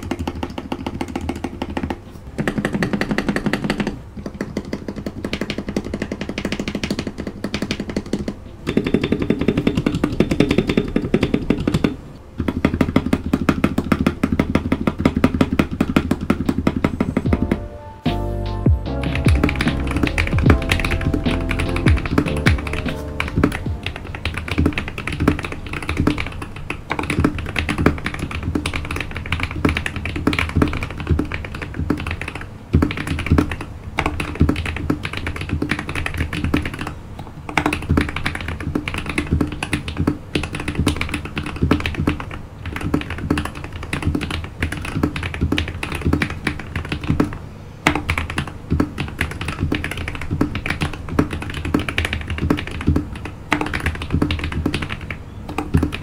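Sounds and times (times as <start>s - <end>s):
mechanical keyboard fast typing: 0.0s - 17.5s, 19.0s - 56.0s.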